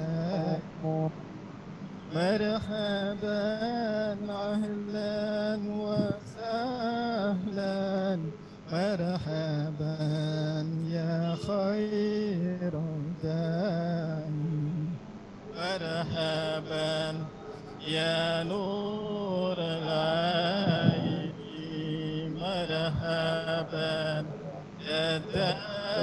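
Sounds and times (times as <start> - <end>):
man chanting devotional song: 0.0 - 1.2, 2.0 - 26.0.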